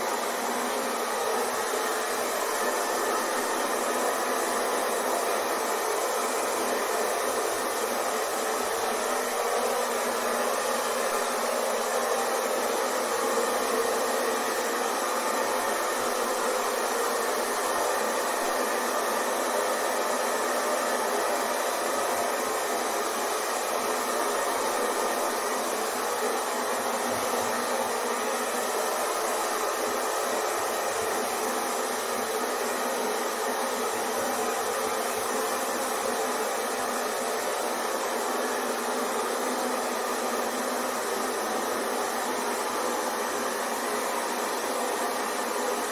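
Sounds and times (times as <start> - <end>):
hair dryer running: 0.0 - 45.9.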